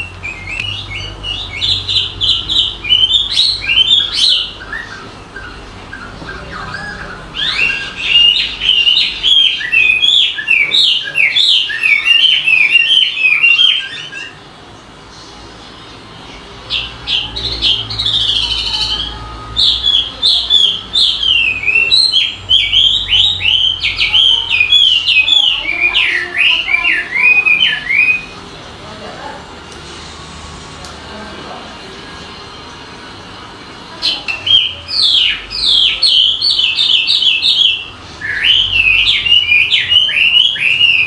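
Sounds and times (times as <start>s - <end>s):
songbird singing: 0.0s - 28.5s, 34.0s - 41.0s.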